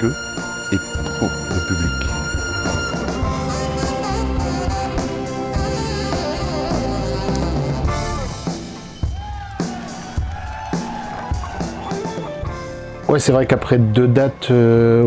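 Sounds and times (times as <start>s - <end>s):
rock music with drums and guitar: 0.0s - 13.4s.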